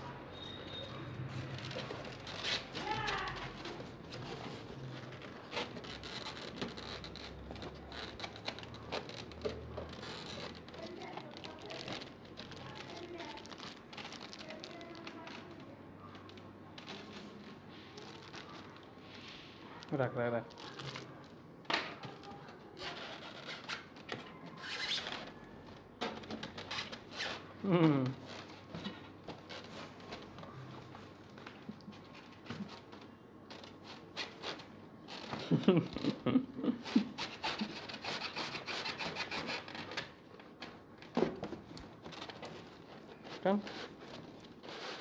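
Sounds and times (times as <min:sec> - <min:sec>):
plastic crinkling and rustling: 0:00.1 - 0:45.0.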